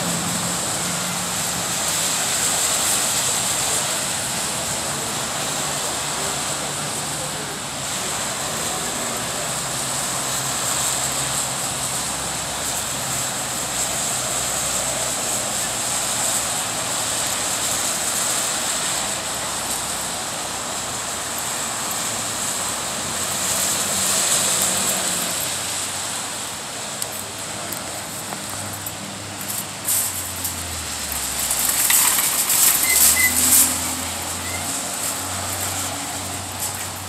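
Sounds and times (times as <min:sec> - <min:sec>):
cars passing: 0:00.0 - 0:37.0
constant hiss: 0:00.0 - 0:37.0.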